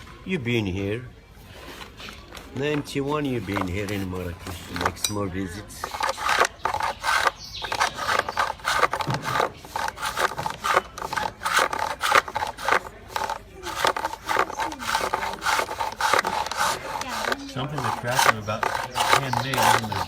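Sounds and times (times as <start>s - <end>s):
tool scraping spinning wood: 2.6s - 20.0s.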